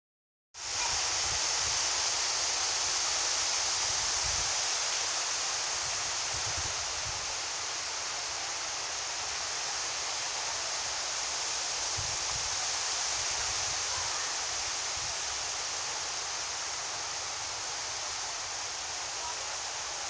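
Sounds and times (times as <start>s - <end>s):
strong wind hissing: 0.6s - 20.0s.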